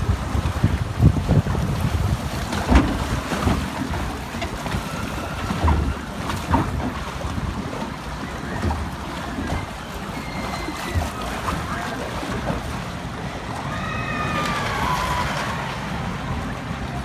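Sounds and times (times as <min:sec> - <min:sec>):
wind on microphone: 0:00.0 - 0:16.9
water rushing along flume channel: 0:00.0 - 0:17.0.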